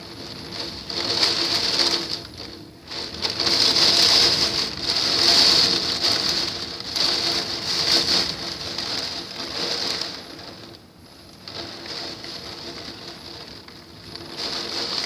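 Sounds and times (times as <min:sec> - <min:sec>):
hurricane wind: 0:00.0 - 0:15.0
rain: 0:00.0 - 0:15.0.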